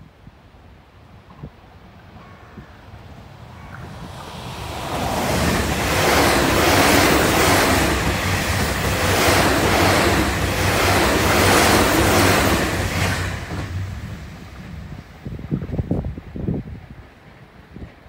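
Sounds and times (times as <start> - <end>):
electric train passing at speed: 1.8 - 18.0.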